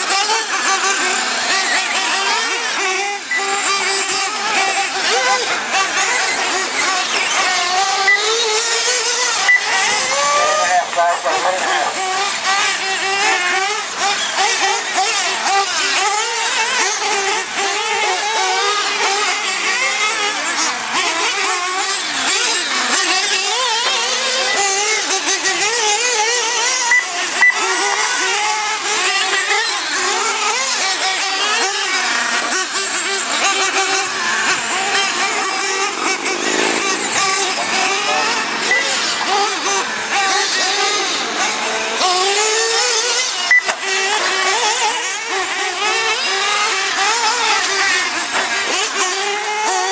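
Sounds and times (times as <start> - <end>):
rc truck motors whining: 0.0 - 49.9.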